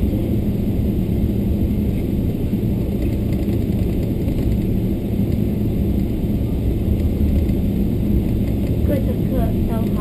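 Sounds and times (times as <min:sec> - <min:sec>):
airplane cabin rumble: 0:00.0 - 0:10.0.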